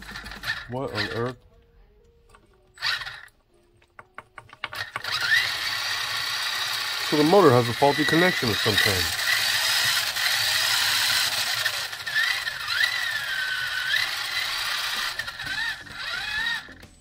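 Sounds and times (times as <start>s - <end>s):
electric motor whirring and whining: 0.0s - 1.4s, 2.8s - 3.3s, 4.6s - 17.0s.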